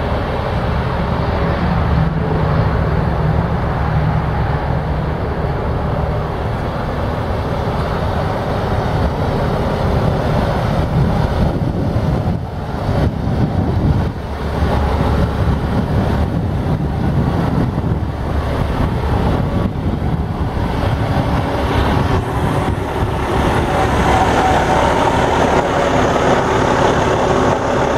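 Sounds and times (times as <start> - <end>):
diesel engine idling: 0.0 - 27.9
wind rumbling on microphone: 0.0 - 27.9.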